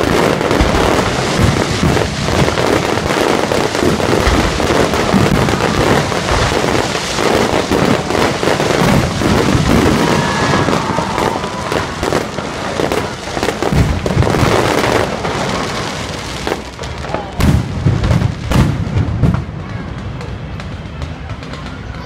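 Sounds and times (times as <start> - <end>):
fireworks booms: 0.0 - 22.0
fireworks crackling: 0.0 - 22.0.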